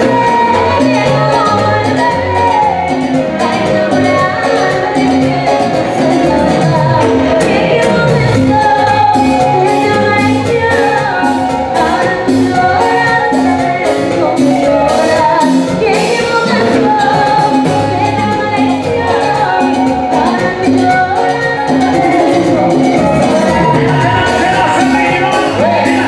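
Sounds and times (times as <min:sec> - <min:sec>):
congas: 0:00.0 - 0:26.0
keyboard: 0:00.0 - 0:26.0
salsa band playing: 0:00.0 - 0:26.0
woman singing lead: 0:00.0 - 0:26.0.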